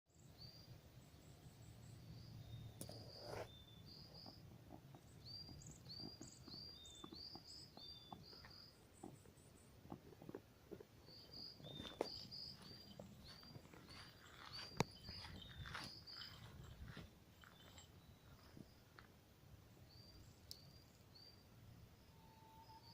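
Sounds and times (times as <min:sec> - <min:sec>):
birds chirping: 0:00.2 - 0:19.1.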